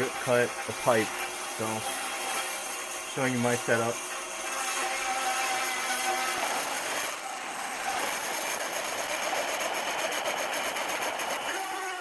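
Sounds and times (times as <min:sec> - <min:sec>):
bandsaw cutting metal pipe: 0:00.0 - 0:12.0.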